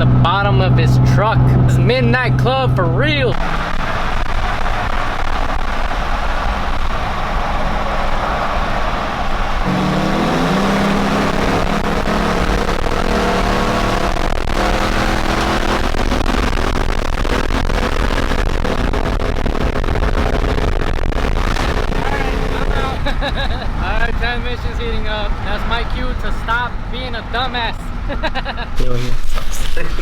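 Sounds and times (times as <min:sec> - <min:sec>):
truck engine revving hard: 0:00.0 - 0:26.2.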